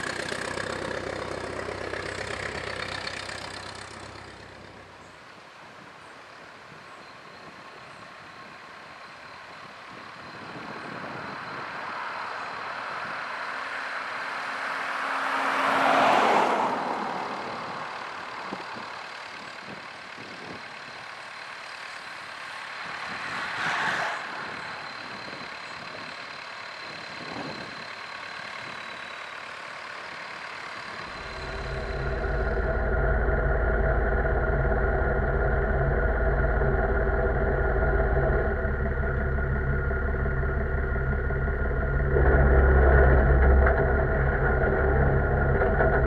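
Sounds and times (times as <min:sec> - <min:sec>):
tractor engines driving past: 0:00.0 - 0:46.0.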